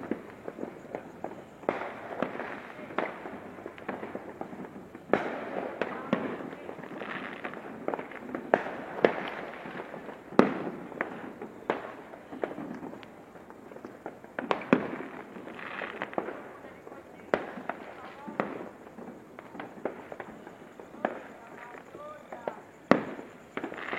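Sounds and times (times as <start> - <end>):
fireworks bangs and pops: 0.0 - 23.9.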